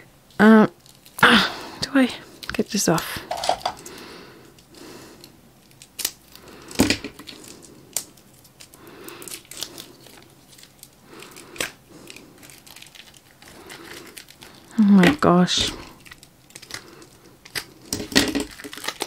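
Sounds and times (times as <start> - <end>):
plastic wrapper crinkling and tearing: 0.6 - 1.2, 2.3 - 19.0.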